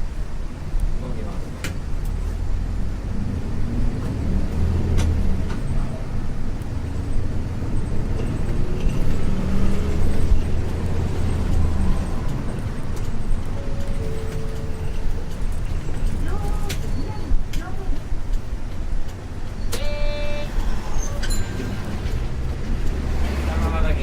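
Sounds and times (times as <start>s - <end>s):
diesel bus engine droning: 0.0s - 24.0s.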